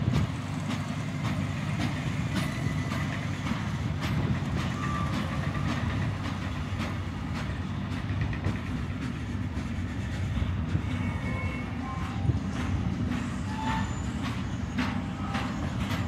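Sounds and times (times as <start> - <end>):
train wheels rumbling on rail: 0.0 - 16.0
wheels clacking over rail joints: 0.0 - 16.0.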